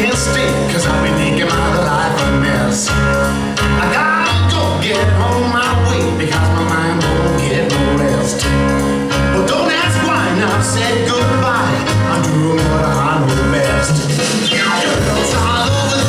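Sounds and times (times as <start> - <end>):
person singing over bass beat: 0.0 - 16.0.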